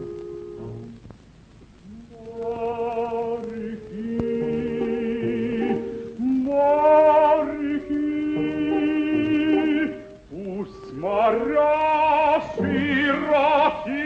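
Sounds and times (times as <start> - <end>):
operatic singing: 1.8 - 14.0.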